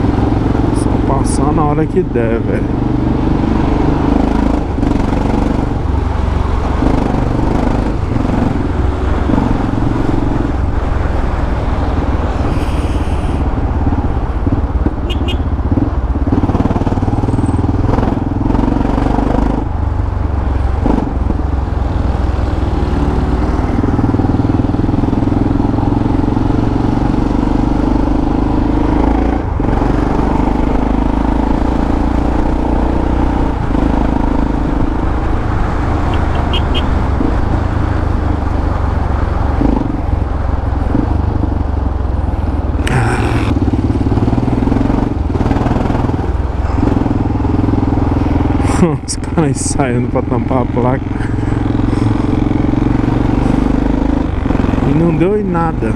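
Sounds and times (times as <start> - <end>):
motorcycle engine while riding: 0.0 - 55.9.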